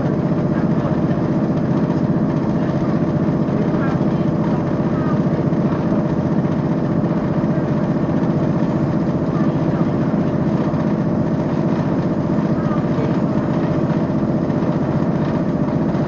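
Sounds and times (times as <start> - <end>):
diesel train engine humming: 0.0 - 16.0.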